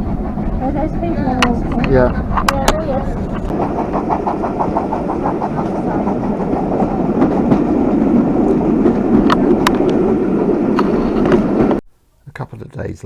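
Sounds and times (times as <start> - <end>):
train wheels rumbling on rail: 0.0 - 11.8.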